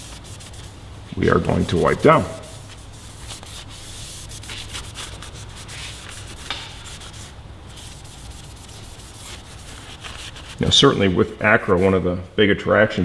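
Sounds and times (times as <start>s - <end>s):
cloth rubbing on metal pipe: 0.0s - 12.0s.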